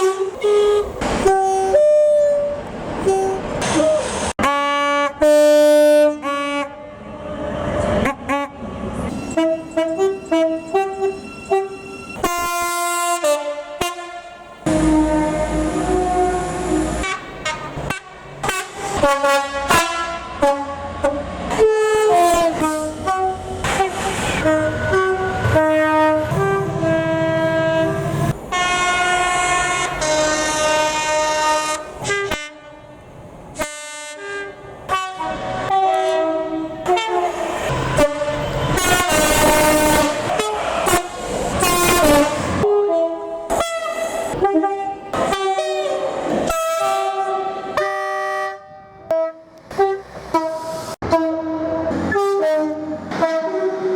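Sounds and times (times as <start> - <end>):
locomotive engine rumbling: 0.0 - 53.9
locomotive horn playing notes: 0.0 - 53.9.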